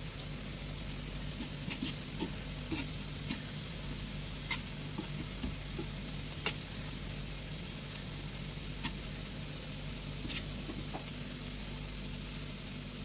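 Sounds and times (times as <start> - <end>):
onions sizzling in a pan: 0.0 - 13.0
steady low hum: 0.0 - 13.0.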